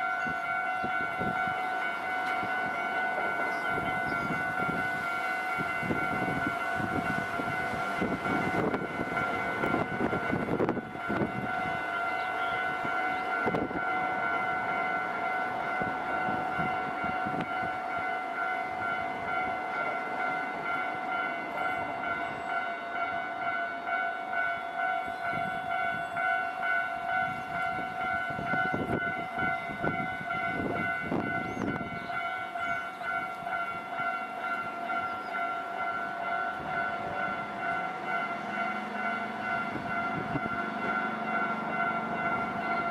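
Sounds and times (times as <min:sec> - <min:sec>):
level crossing alarm ringing: 0:00.0 - 0:42.9.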